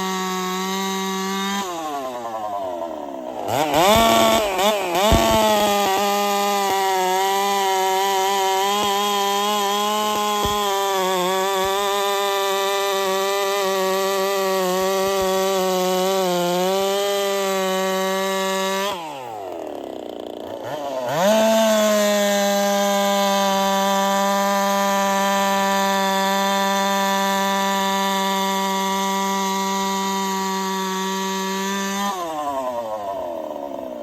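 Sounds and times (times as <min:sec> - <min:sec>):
chainsaw engine revving: 0:00.0 - 0:34.0.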